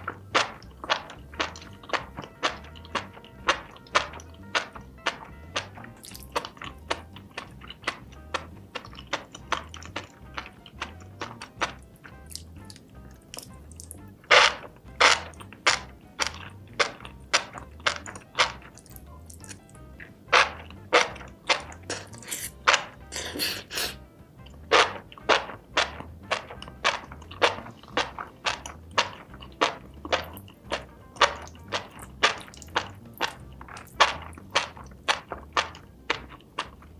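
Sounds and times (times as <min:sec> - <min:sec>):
background music with low beat: 0:00.0 - 0:36.9
wet chewing and mouth smacks: 0:00.0 - 0:36.9.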